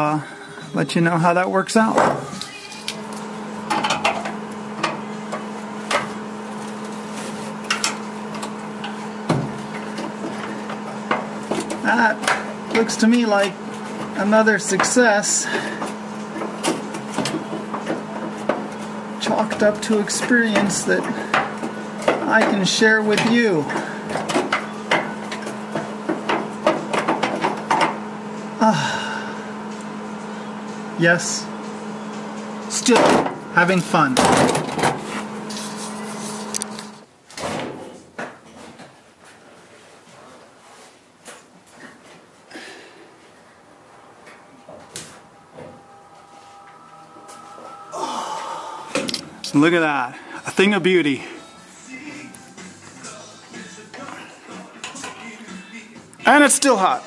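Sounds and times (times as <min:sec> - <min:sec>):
steady low hum: 0:00.0 - 0:37.2, 0:39.3 - 0:57.0.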